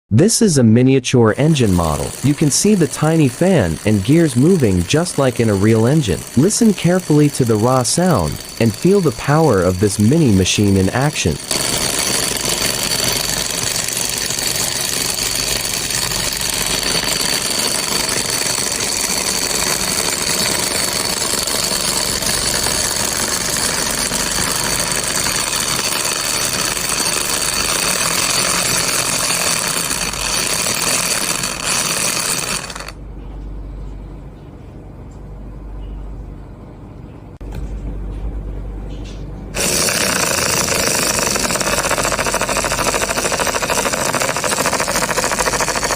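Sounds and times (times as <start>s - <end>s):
model engine rattling and whining: 1.3s - 33.0s, 39.6s - 45.9s.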